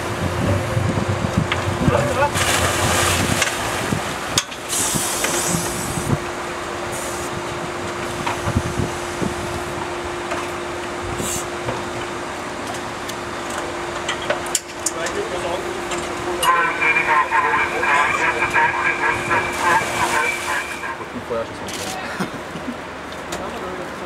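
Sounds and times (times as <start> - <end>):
rushing water: 0.0 - 21.6
steady machine hum: 0.0 - 21.6
wind: 0.0 - 24.0.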